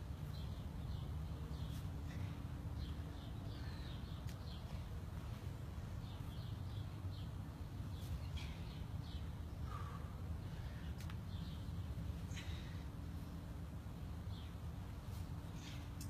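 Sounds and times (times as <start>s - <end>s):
birds chirping: 0.0s - 16.0s
low background hum: 0.0s - 16.0s.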